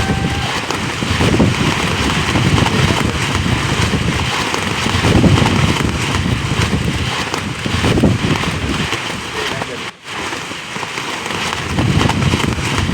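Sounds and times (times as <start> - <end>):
gusty wind buffeting microphone: 0.0 - 12.9.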